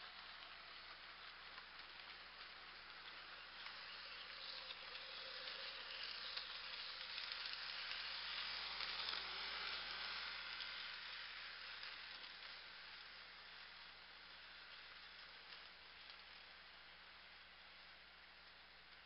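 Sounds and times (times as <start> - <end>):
faint ticks: 0.0 - 19.0
model train motor whirring: 0.0 - 19.0.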